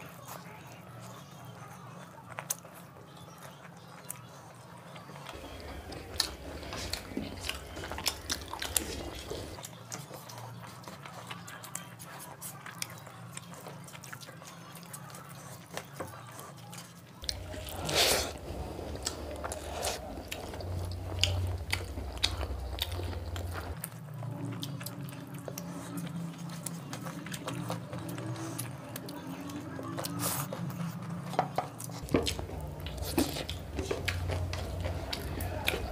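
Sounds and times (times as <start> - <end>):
wet chewing and smacking: 0.0 - 35.9.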